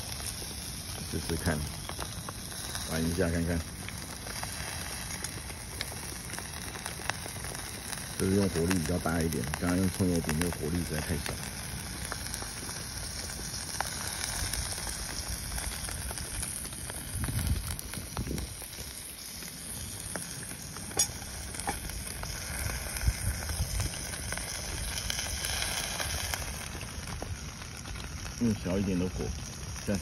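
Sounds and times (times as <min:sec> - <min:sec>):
gas stove hissing: 0:00.0 - 0:30.0
steak sizzling in a pan: 0:00.0 - 0:30.0.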